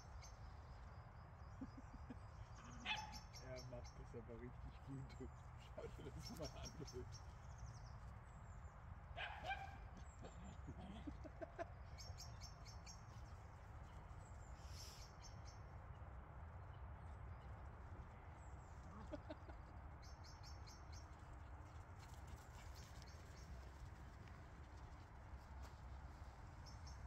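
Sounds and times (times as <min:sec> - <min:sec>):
songbird chirping: 0:00.0 - 0:27.0.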